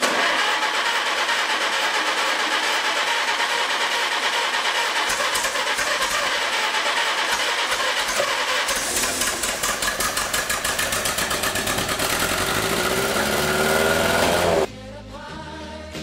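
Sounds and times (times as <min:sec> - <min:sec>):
tractor engine running: 0:00.0 - 0:14.7.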